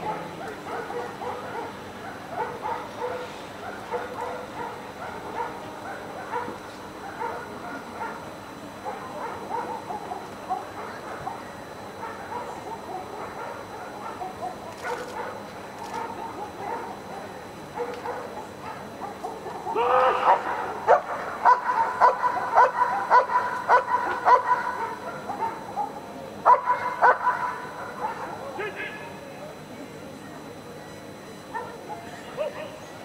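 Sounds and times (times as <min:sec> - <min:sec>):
dog barking: 0:00.0 - 0:28.7, 0:31.5 - 0:32.8.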